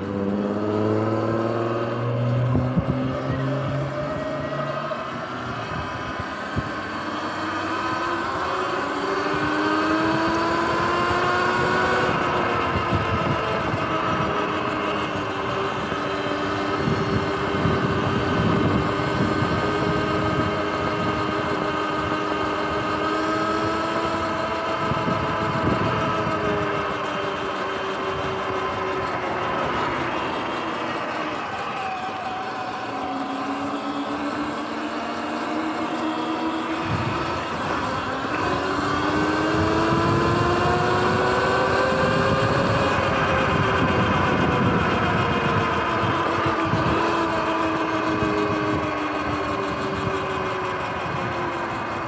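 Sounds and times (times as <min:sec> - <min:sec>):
wind rumble on microphone: 0:00.0 - 0:31.2, 0:34.3 - 0:52.0
electric dirt bike motor whining: 0:00.0 - 0:52.0.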